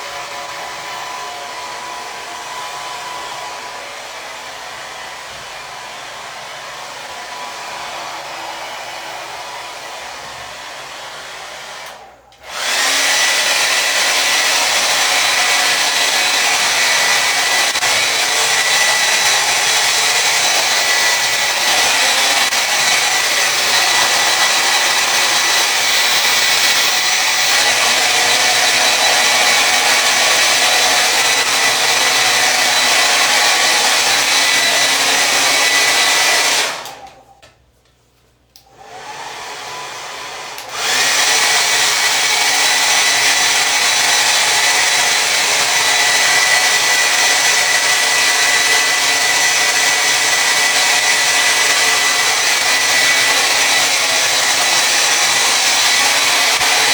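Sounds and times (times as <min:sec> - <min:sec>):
hair dryer blowing: 0:00.0 - 0:37.4, 0:38.6 - 0:56.9.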